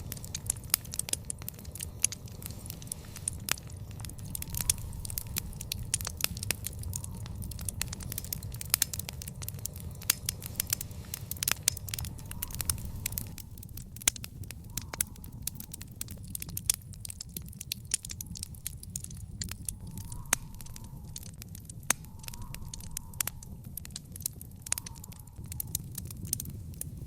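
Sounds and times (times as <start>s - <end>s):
fire pops and snaps: 0.0s - 27.0s
wood fire crackling: 0.0s - 27.0s.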